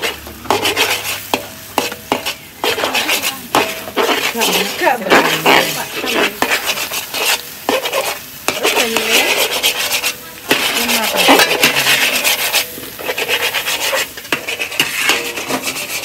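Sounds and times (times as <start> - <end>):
metal spatulas scraping a wok: 0.0 - 16.0.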